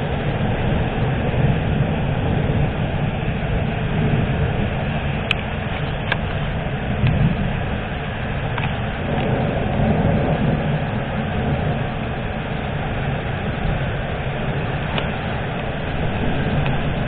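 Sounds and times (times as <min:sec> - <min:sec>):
thunderstorm rumbling hiss: 0:00.0 - 0:17.0.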